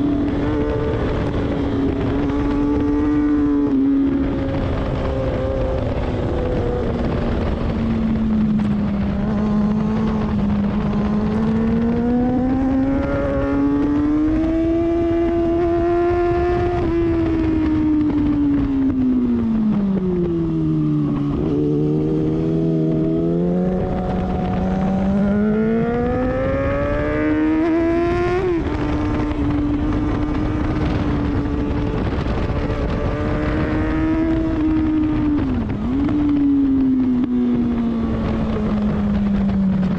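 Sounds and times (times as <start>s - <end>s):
motorcycle engine accelerating: 0.0s - 39.9s
wind noise on camera: 0.0s - 39.9s.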